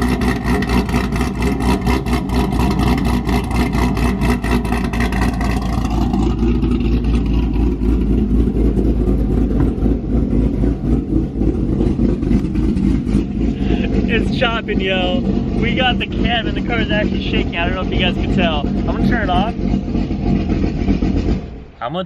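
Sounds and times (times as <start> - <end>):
car engine idling lopey: 0.0 - 22.0.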